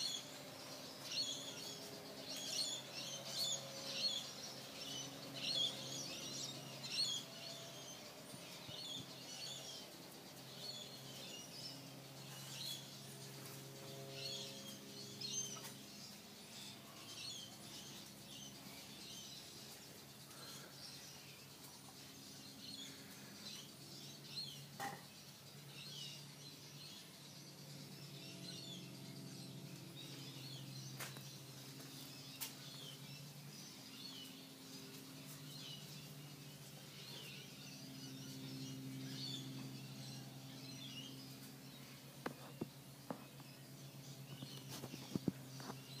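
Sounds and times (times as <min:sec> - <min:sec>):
birds chirping: 0:00.0 - 0:46.0
low steady hum: 0:00.0 - 0:46.0.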